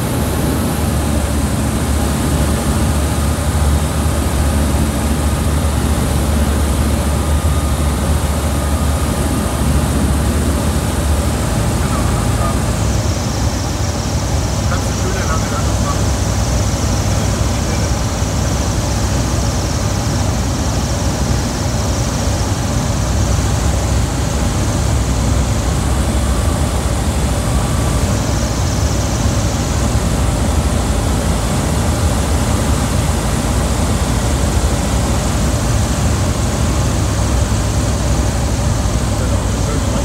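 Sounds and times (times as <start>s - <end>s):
propeller engine running: 0.0s - 40.0s.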